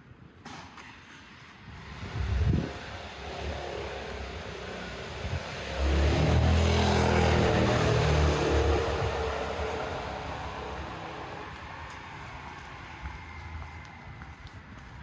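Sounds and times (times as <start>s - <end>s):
vehicle engine passing by: 1.7s - 13.8s.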